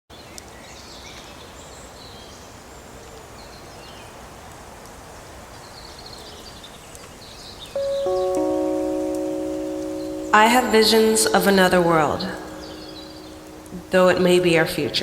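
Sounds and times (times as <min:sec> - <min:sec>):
steady background hiss: 0:00.4 - 0:15.0.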